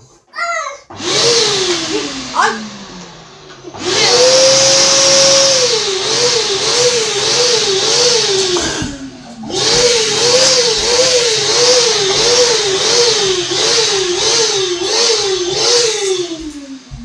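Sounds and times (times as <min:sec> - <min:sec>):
vacuum cleaner motor running: 0:00.9 - 0:17.0.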